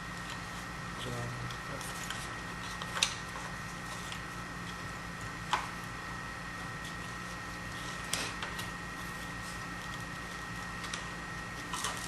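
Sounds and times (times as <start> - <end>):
low hum with high whine: 0.0 - 12.0.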